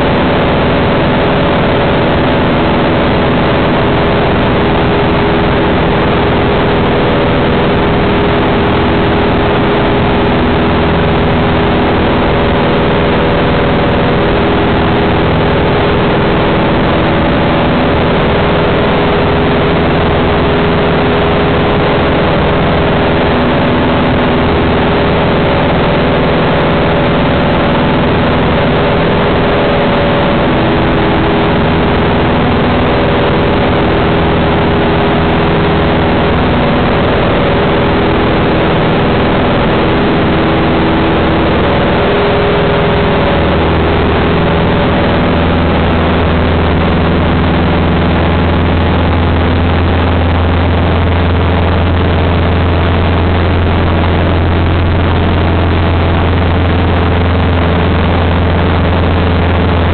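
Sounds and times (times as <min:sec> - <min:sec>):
light aircraft engine and propeller drone: 0:00.0 - 0:59.9.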